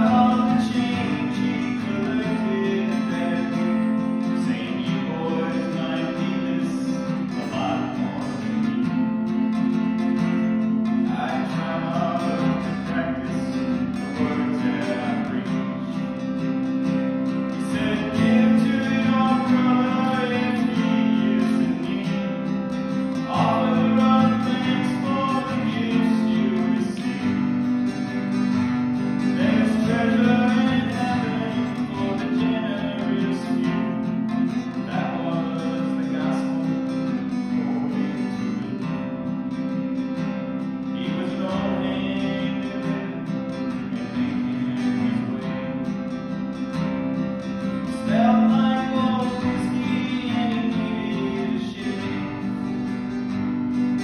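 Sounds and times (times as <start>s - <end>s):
acoustic guitar strumming: 0.0s - 54.0s
man singing: 0.0s - 54.0s.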